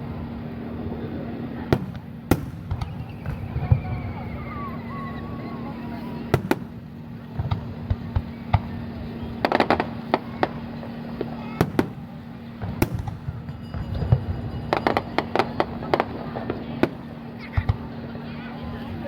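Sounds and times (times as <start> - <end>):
fireworks bangs: 1.6 - 18.0.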